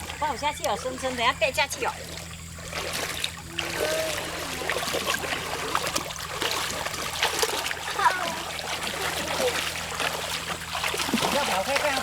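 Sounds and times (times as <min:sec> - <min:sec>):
shallow stream flowing: 0:00.0 - 0:12.0
small water splashes: 0:00.0 - 0:12.0.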